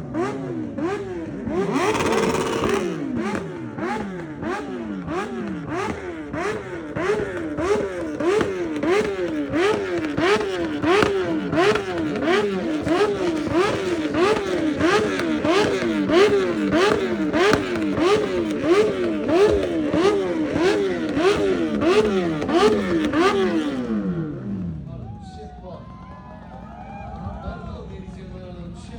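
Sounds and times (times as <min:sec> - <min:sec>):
exhaust crack: 0:00.0 - 0:24.9
motorcycle engine revving: 0:00.0 - 0:25.0.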